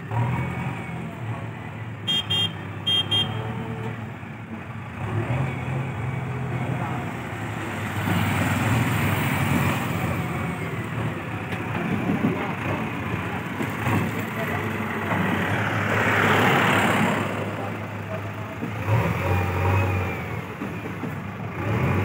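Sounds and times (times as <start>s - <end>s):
rush of vehicle noise: 0.0s - 22.0s.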